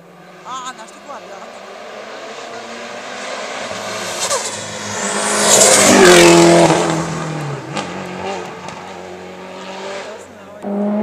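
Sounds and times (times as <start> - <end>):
race car passing at speed: 0.0 - 11.0.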